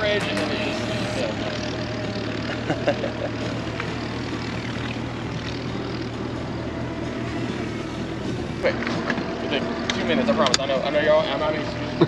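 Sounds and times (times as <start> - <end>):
motor running: 0.0 - 12.0.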